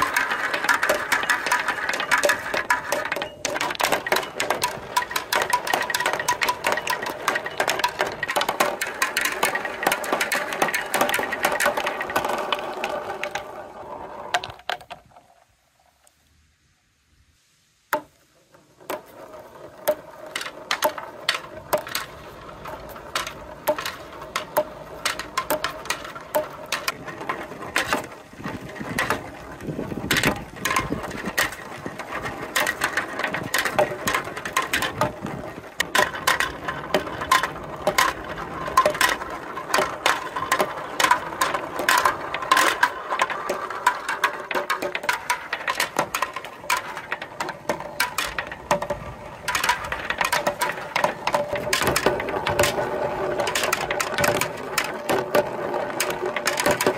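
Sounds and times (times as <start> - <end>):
plastic balls rolling on track: 0.0 - 15.6, 17.9 - 56.9.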